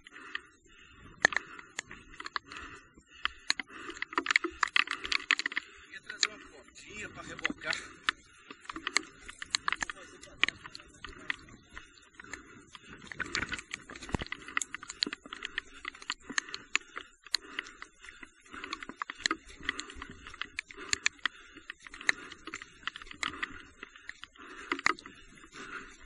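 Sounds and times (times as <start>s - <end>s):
footsteps on wet trail: 0.0s - 26.0s
raindrops tapping on camera: 0.1s - 26.0s.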